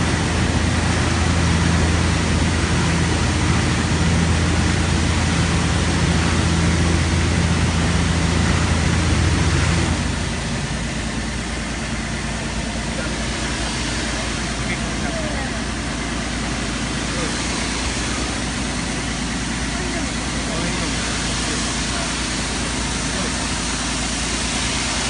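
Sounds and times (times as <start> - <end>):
electric motor hum: 0.0 - 25.0
rushing air or spray: 0.0 - 25.0.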